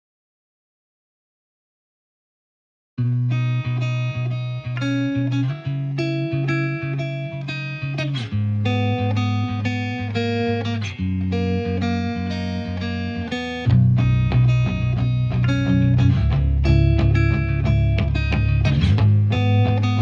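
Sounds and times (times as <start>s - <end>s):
plucked guitar instrumental: 3.0s - 20.0s.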